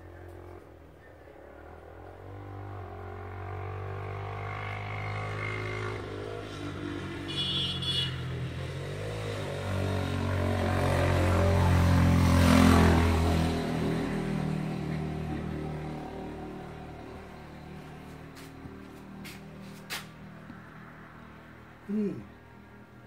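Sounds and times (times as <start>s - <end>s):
vehicle engine approaching: 0.0s - 7.6s, 8.2s - 23.0s.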